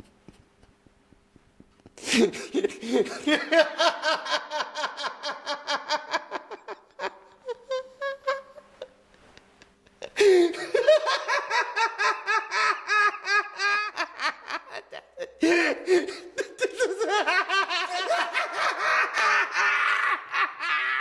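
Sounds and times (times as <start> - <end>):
man laughing uncontrollably: 2.0 - 21.0.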